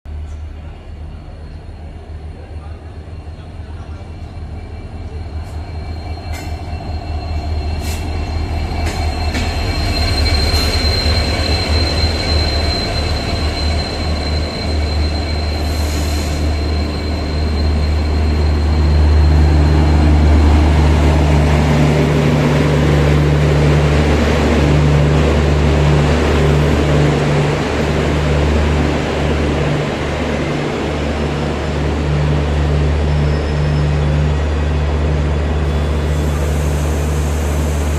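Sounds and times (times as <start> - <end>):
train coaches rumbling and rattling: 0.1 - 37.9
train wheel squeal: 0.3 - 37.9.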